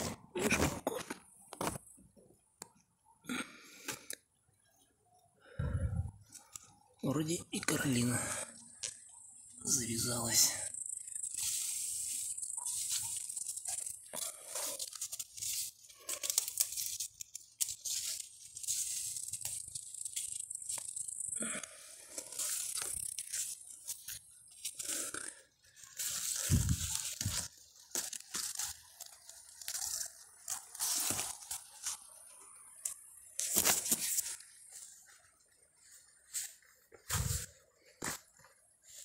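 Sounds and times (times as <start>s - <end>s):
leaves rustling against phone: 7.3s - 39.0s.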